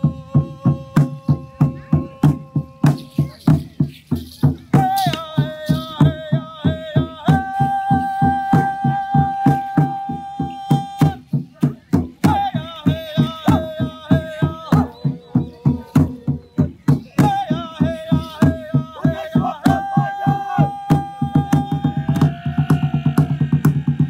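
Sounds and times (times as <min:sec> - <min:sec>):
fast drumbeat: 0:00.0 - 0:24.0.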